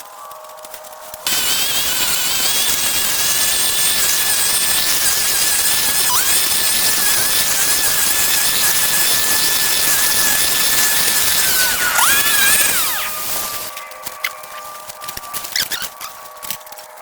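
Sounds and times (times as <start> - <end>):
petrol garden power tool whining: 1.1 - 17.0.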